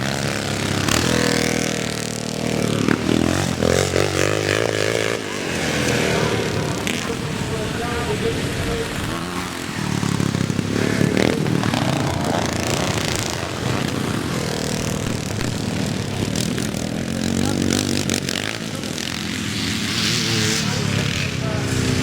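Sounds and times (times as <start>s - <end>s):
motocross bikes revving: 0.0s - 22.0s.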